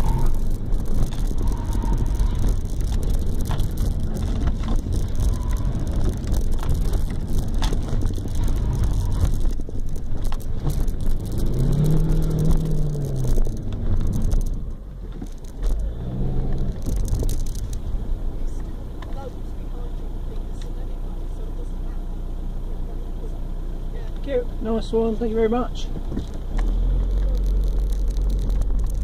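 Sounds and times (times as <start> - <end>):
tyre noise: 0.0 - 20.7, 25.9 - 29.0
car engine: 0.0 - 29.0.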